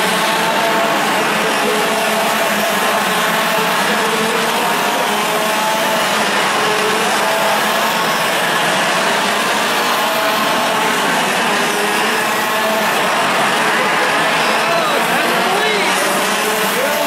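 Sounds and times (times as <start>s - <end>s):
kart engines buzzing: 0.0s - 17.0s.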